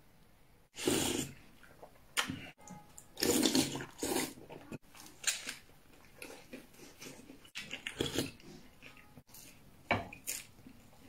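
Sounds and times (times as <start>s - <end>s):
man chewing flatbread: 1.4s - 11.0s.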